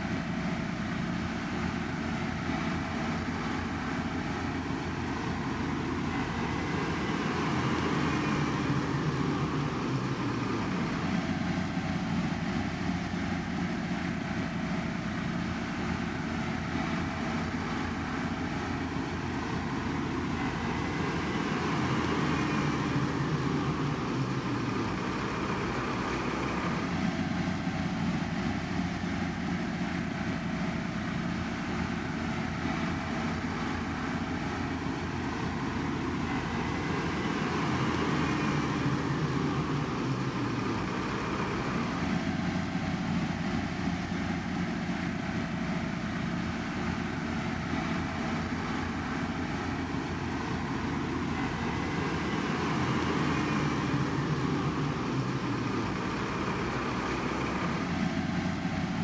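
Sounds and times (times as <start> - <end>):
heavy construction machinery running: 0.0 - 59.0.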